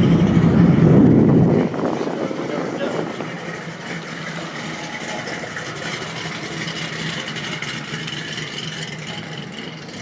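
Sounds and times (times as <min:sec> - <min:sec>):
car engine idling: 0:00.0 - 0:10.0
outdoor noise: 0:00.0 - 0:10.0.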